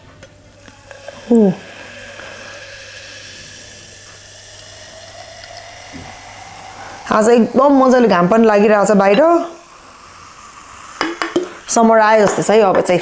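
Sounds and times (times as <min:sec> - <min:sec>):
soda pouring and fizzing: 0:00.4 - 0:13.0
faint rising tone: 0:00.5 - 0:11.8.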